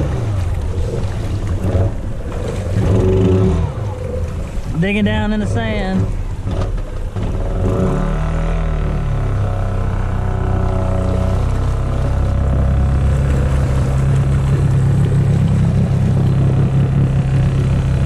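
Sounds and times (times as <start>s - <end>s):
quad bike engine running: 0.0s - 4.4s, 5.9s - 18.0s
water sloshing: 0.0s - 18.0s.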